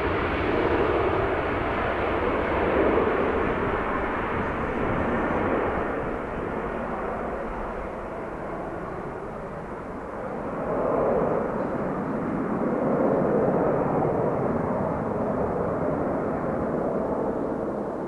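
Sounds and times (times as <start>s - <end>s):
jet engines at take-off power: 0.0s - 18.0s.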